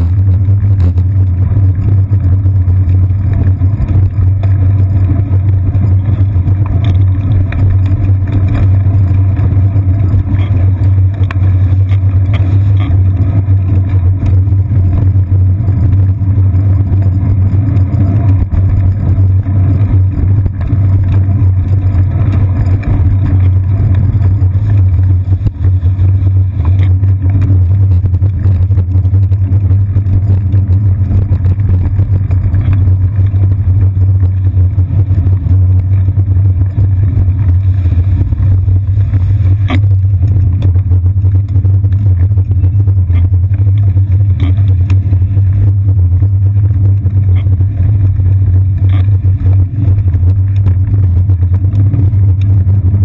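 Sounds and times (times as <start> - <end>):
motor traffic passing: 0.0 - 53.0
wind and road vibration rumble: 0.0 - 53.0.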